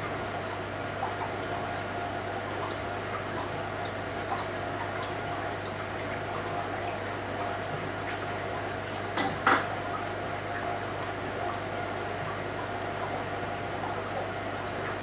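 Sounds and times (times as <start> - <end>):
aquarium filter hum: 0.0 - 15.0.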